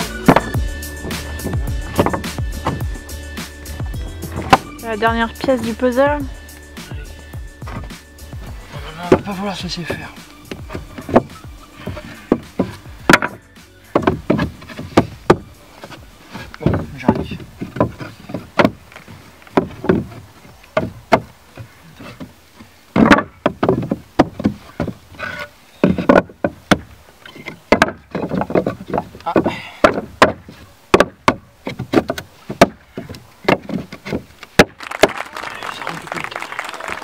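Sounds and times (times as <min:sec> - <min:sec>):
wooden boards knocking and clattering: 0:00.0 - 0:03.0, 0:04.3 - 0:04.8, 0:07.6 - 0:08.0, 0:08.8 - 0:35.2.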